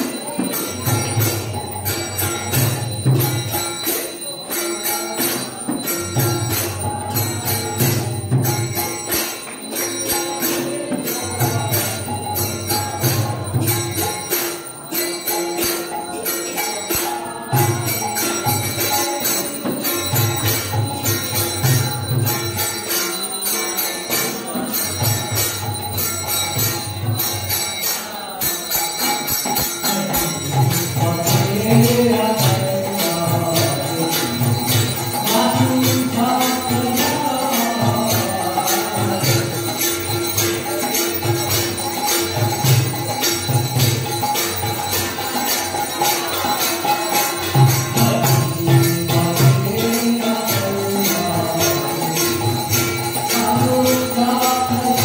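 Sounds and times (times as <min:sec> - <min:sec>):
bells ringing: 0:00.0 - 0:55.0
hand cymbals ringing: 0:00.0 - 0:55.0.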